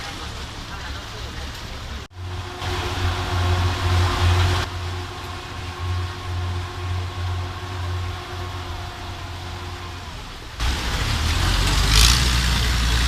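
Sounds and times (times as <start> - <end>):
engine humming: 0.0 - 13.0
rushing hiss: 1.9 - 13.0
steady tones: 2.0 - 13.0.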